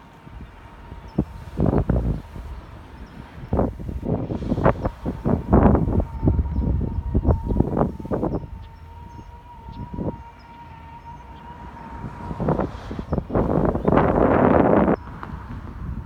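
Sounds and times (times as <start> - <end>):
wind buffeting microphone: 0.0 - 16.0
steady high-pitched tone: 0.9 - 15.0.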